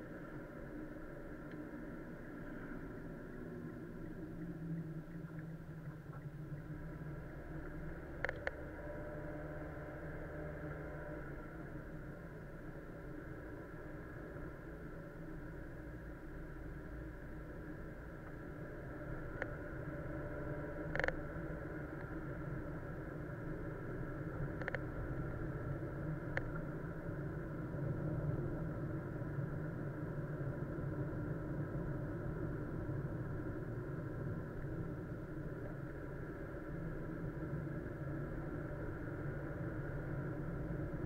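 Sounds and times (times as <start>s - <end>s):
car interior rumble: 0.0s - 41.0s.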